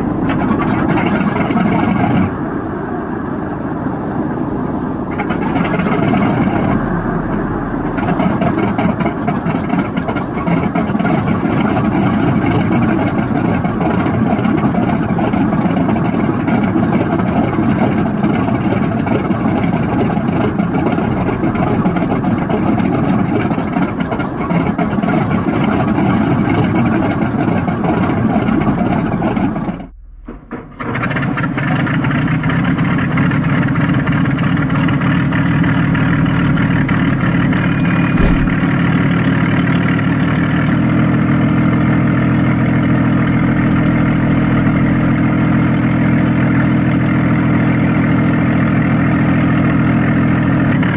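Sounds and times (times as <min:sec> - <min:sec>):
deeper engine running steadily: 0:00.0 - 0:31.0, 0:40.9 - 0:50.9.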